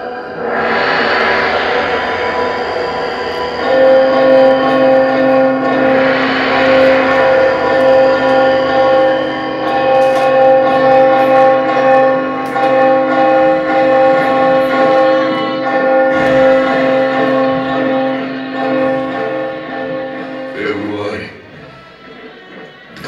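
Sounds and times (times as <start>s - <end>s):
large bell ringing: 0.0s - 23.0s.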